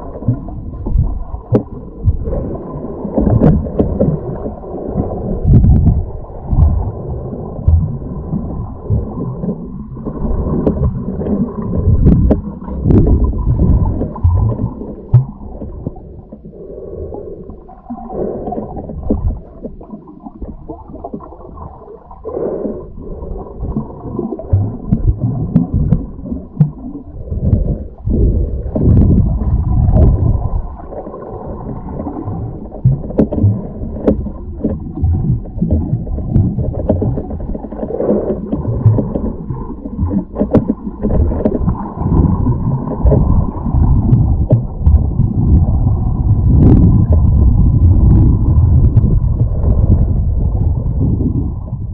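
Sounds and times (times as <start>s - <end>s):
underwater rumbling and gurgling: 0.0s - 51.9s.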